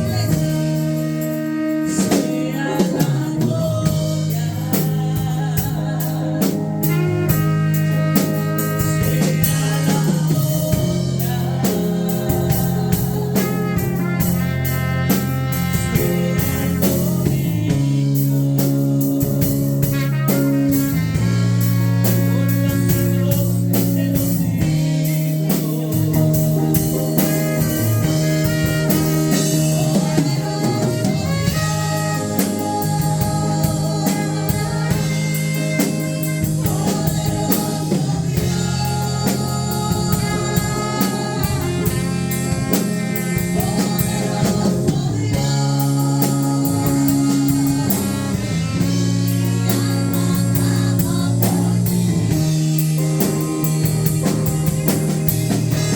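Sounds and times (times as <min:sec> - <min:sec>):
person singing: 0:00.0 - 0:55.9
worship band music: 0:00.0 - 0:55.9.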